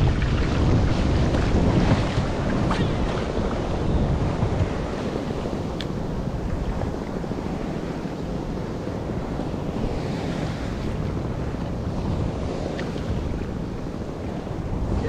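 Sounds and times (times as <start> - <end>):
waves washing around kayak: 0.0 - 15.0
wind buffeting microphone: 0.0 - 15.0.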